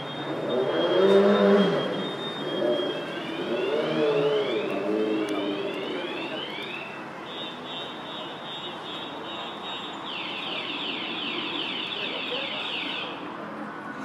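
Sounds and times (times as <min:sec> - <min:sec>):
car alarm sounding: 0:00.0 - 0:13.2
street noise: 0:00.0 - 0:14.0.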